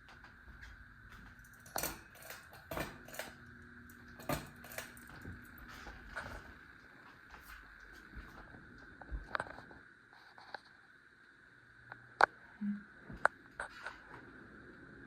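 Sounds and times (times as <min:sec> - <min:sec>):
ceiling fan whine: 0:00.0 - 0:15.0.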